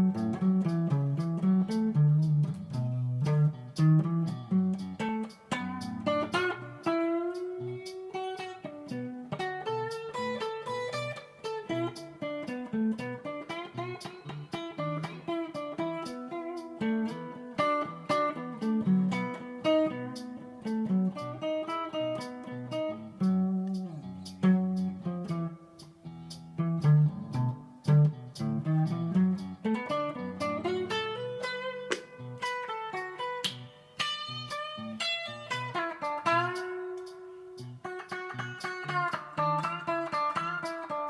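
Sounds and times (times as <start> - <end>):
electric guitar picked notes and chords: 0.0 - 41.0.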